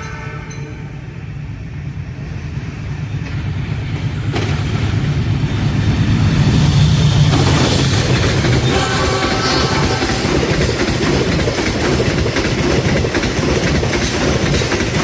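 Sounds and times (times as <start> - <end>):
train locomotive rumbling: 0.0 - 15.0.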